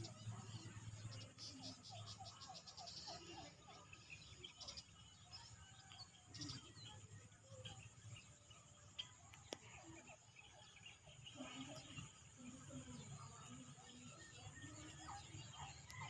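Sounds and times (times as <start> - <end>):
faint insects chirping: 0.0 - 16.0.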